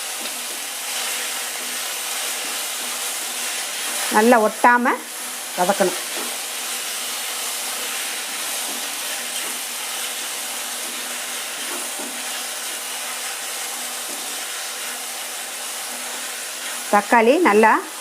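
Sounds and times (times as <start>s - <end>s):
masala sizzling in hot oil: 0.0s - 18.0s.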